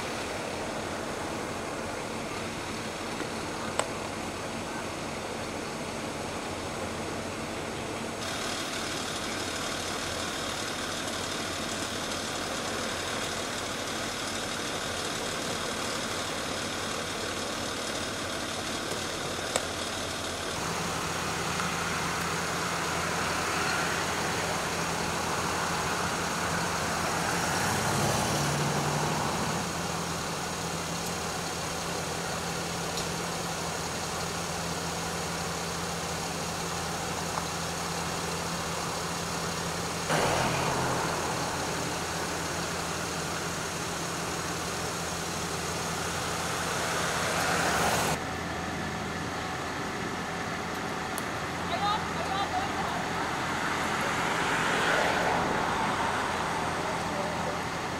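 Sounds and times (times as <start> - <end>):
vehicle engine idling: 0.0 - 57.9.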